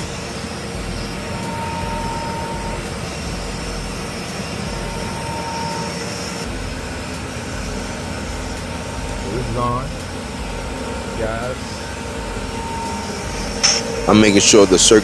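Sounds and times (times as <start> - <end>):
boiler burner roaring: 0.0 - 15.0.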